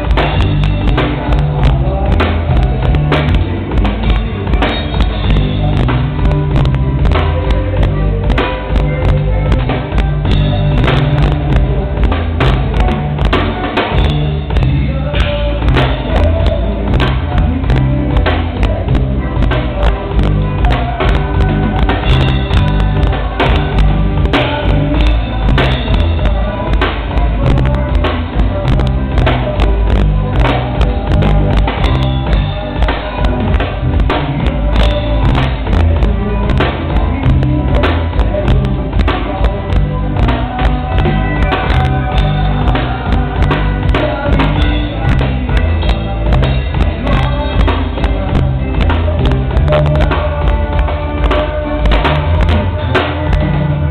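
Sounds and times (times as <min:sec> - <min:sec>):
band playing: 0:00.0 - 0:53.9
bass line: 0:00.0 - 0:53.9
drum kit beat: 0:00.0 - 0:53.9.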